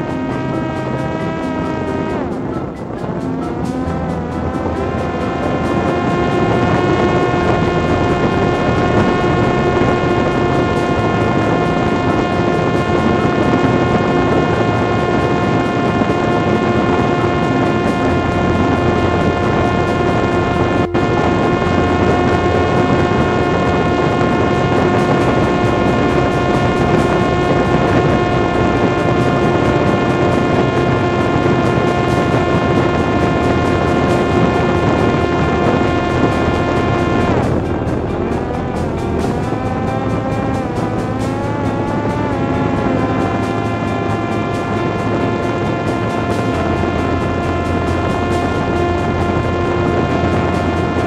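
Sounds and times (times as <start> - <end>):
drone motor high-pitched whine: 0.0 - 51.0.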